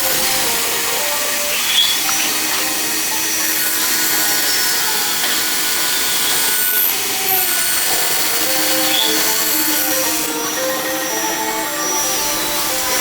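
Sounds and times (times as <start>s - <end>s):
power tool running on metal: 0.0s - 13.0s.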